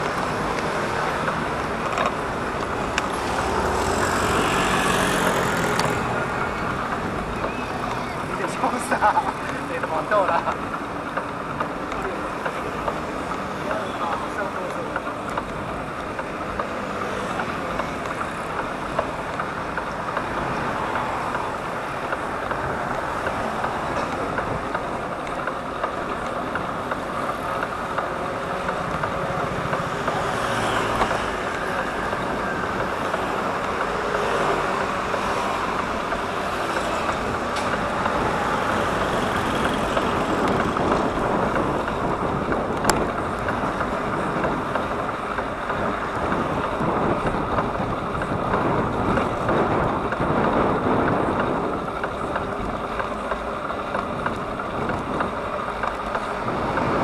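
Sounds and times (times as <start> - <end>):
road traffic rushing: 0.0 - 57.0.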